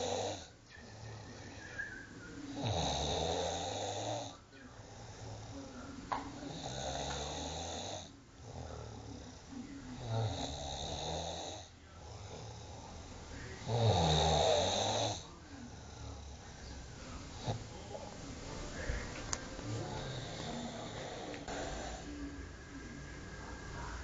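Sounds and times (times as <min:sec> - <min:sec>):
person snoring: 0:00.0 - 0:01.8, 0:02.5 - 0:05.7, 0:06.3 - 0:16.8, 0:18.7 - 0:22.4
quiet breaths: 0:00.0 - 0:24.0.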